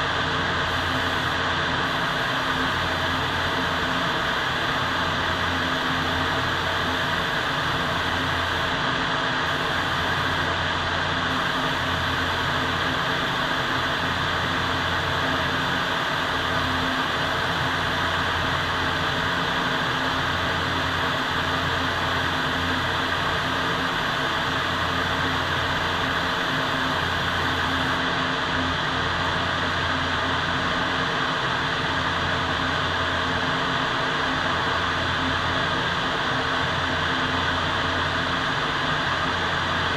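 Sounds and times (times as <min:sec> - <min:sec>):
ventilation fans running: 0:00.0 - 0:39.9.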